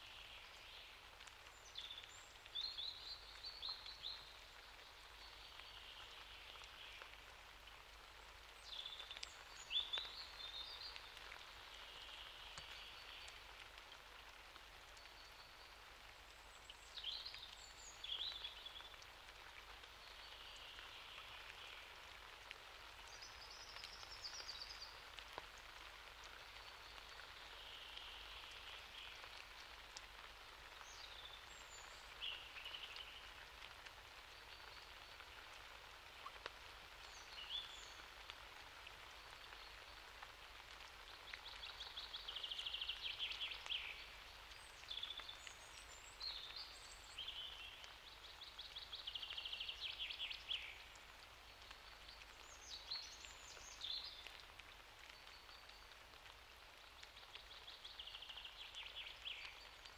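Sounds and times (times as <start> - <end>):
light rain: 0.0 - 59.9.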